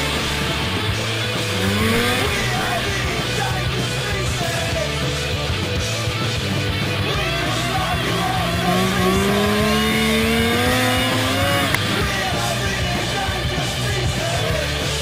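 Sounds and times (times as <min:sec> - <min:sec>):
snowmobile engine rising in pitch: 0:00.0 - 0:13.9
music: 0:00.0 - 0:15.0.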